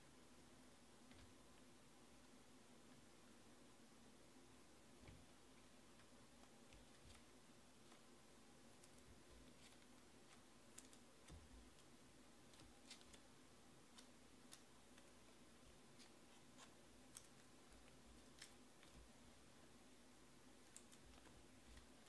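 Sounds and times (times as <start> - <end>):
faint room hum: 0.0 - 22.0.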